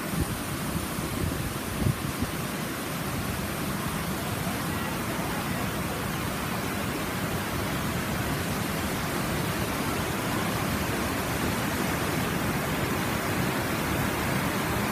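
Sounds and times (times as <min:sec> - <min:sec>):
waterfall rushing over rocks: 0:00.0 - 0:14.9.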